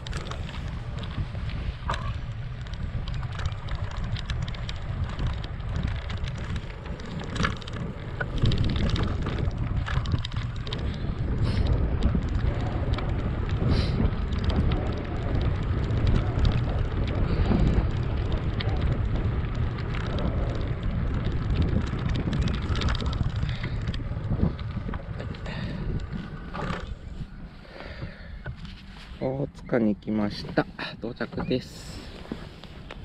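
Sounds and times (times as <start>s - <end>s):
bike clicks and rattles: 0.0s - 33.0s
wind buffeting microphone: 0.0s - 33.0s.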